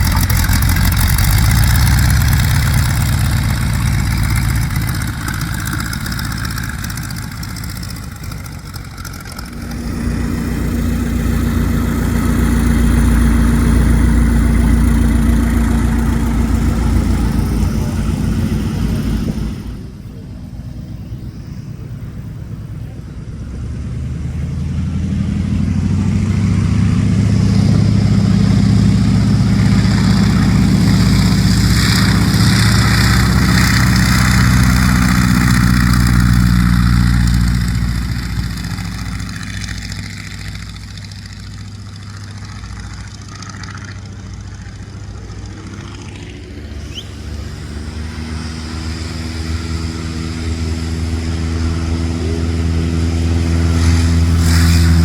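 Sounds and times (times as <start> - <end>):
propeller aircraft engine: 0.0 - 55.0.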